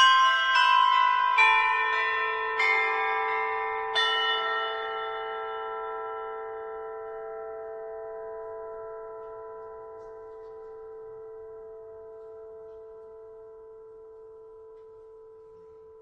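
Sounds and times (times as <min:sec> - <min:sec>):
bell-like musical tones: 0:00.0 - 0:16.0.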